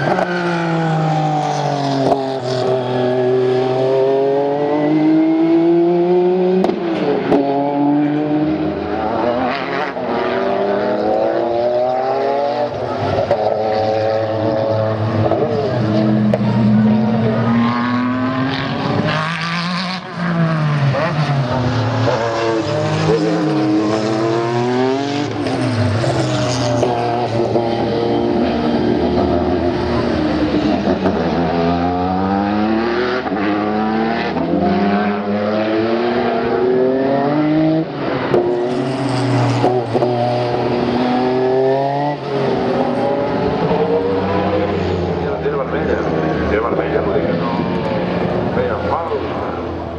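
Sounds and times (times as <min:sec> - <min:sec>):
racing cars revving and passing: 0:00.0 - 0:49.9.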